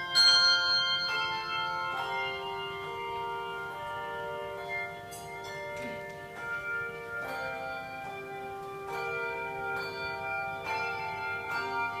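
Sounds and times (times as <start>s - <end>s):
handbells playing slow tune: 0.0s - 12.0s.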